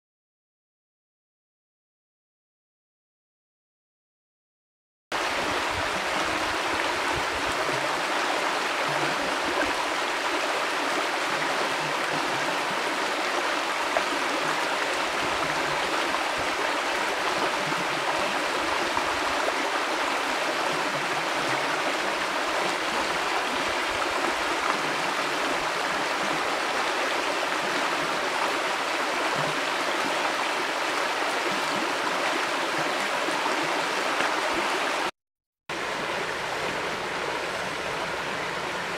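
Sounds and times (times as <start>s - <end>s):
river flowing: 5.2s - 35.1s, 35.7s - 38.9s.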